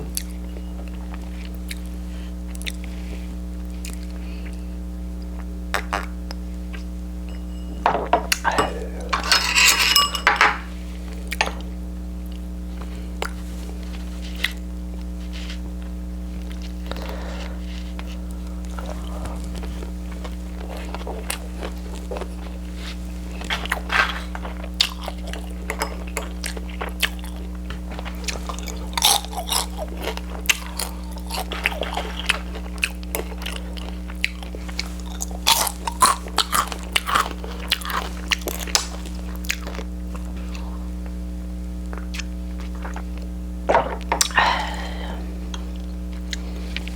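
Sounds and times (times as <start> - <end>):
steady low hum: 0.0 - 46.9
crunchy chewing: 0.1 - 7.0, 12.2 - 43.4.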